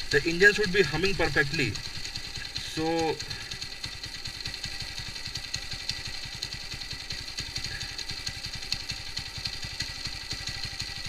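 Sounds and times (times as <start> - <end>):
motorcycle engine idling unevenly: 0.0 - 11.0.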